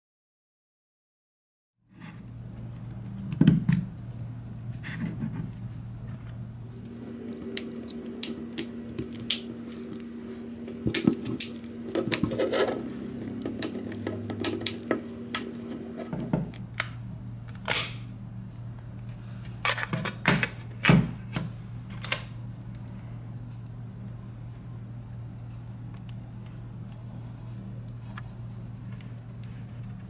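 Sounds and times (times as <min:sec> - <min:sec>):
steady low hum: 0:01.9 - 0:30.0.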